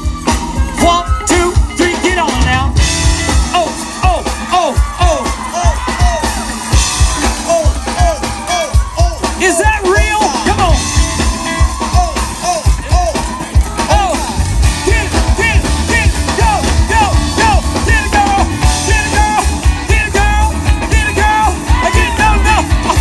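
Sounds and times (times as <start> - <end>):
bass and drums: 0.0 - 23.0
live rock band playing: 0.0 - 23.0.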